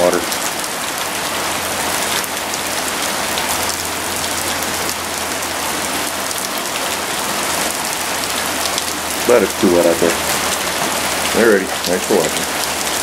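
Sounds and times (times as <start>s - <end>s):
heavy rain on lawn and paving: 0.0s - 13.0s.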